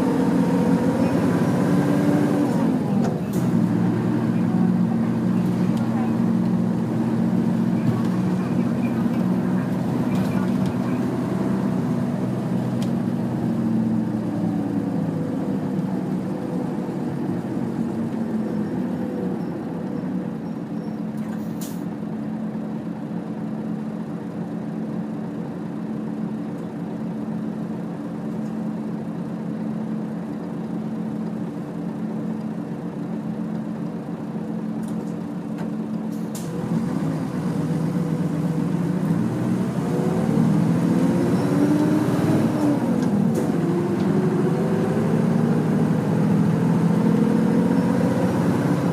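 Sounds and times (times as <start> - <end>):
bus diesel engine running: 0.0 - 48.9.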